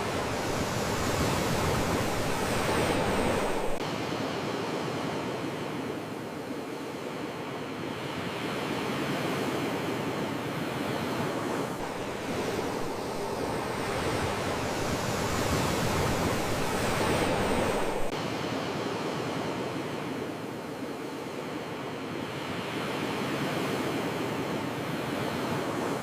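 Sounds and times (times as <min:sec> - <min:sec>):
sea waves washing on shore: 0:00.0 - 0:07.2, 0:08.2 - 0:26.0.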